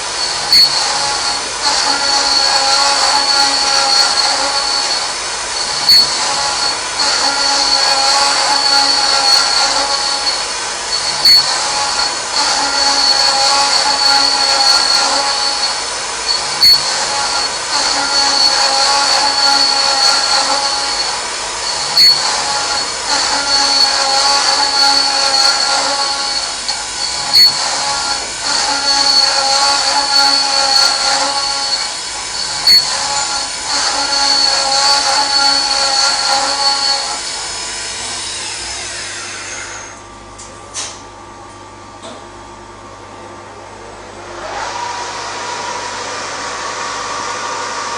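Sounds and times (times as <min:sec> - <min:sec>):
machine spindle whine with cutting: 0:00.0 - 0:40.1.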